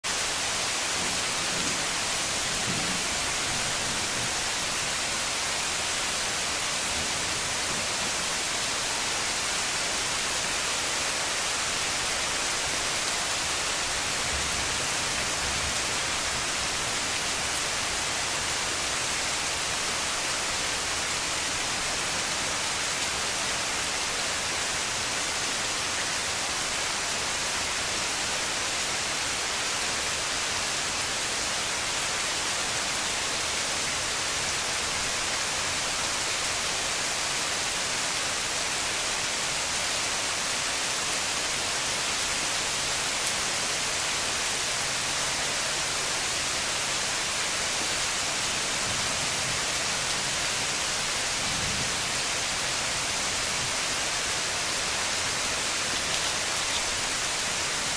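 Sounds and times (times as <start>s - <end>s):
rain falling on foliage: 0.0s - 57.9s.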